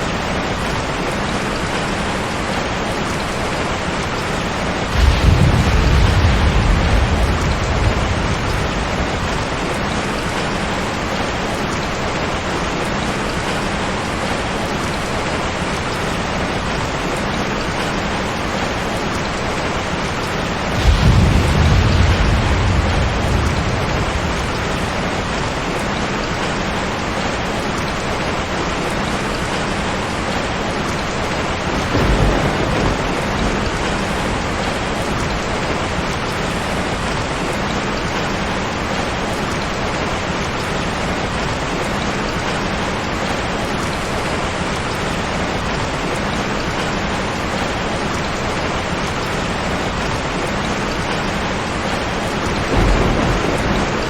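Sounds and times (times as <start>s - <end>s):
thunder clap and rumble: 0.0s - 28.5s, 29.3s - 54.0s
heavy rain: 0.0s - 54.0s.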